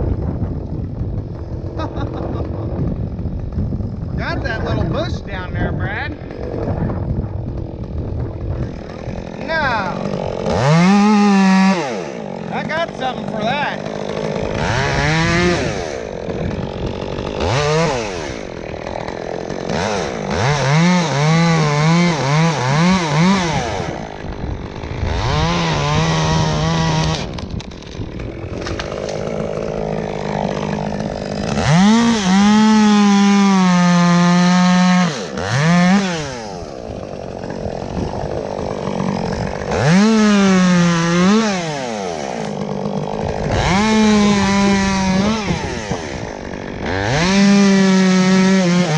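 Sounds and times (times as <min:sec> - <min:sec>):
chainsaw revving: 0:00.8 - 0:48.9.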